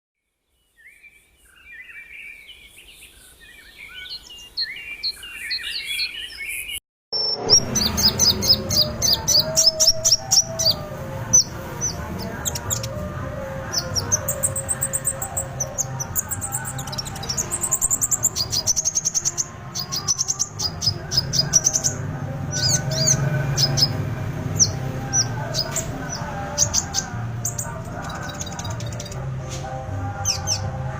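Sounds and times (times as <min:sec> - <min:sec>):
bird chirping and twittering: 0:00.6 - 0:29.3, 0:30.1 - 0:30.8.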